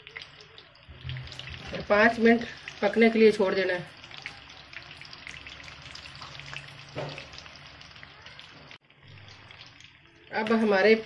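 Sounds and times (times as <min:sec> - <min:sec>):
batter deep-frying in hot oil: 0:00.0 - 0:11.0.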